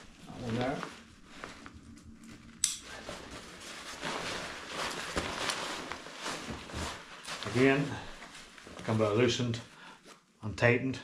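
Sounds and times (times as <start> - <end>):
fabric and straps rustling: 0.0 - 10.4.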